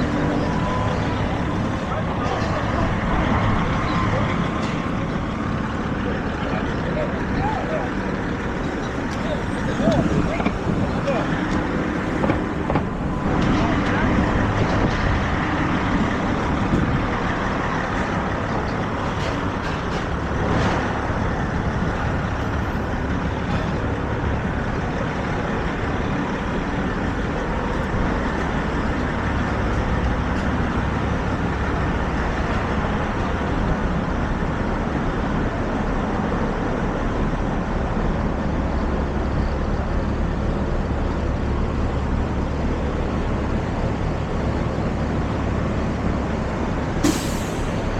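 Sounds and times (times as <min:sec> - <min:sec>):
traffic engines rumbling: 0:00.0 - 0:47.9.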